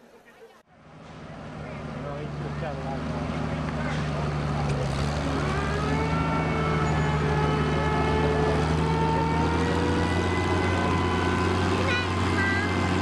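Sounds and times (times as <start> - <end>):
tractor engine revving: 0.8 - 13.0.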